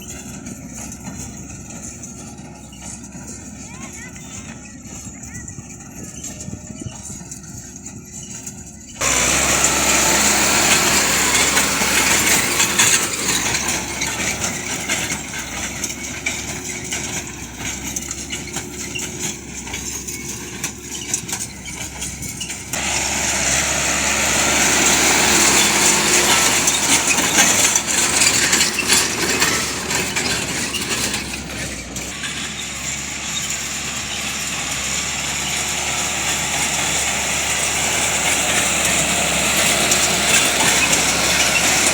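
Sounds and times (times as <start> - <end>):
machinery clatter: 0.0 - 41.9
tractor engine running: 0.0 - 41.9.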